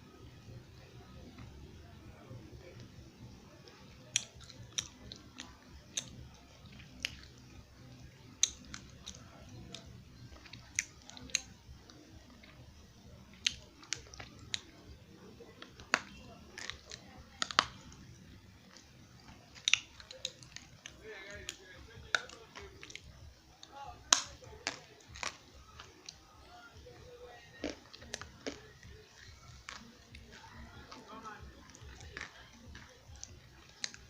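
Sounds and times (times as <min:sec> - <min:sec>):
chewing crunchy clay: 0:03.6 - 0:34.0.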